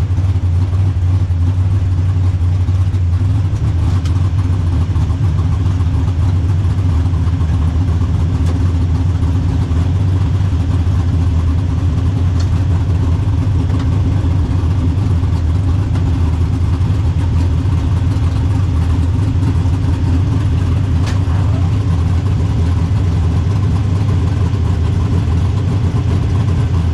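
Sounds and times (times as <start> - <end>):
car engine running at low revs: 0.0 - 26.9.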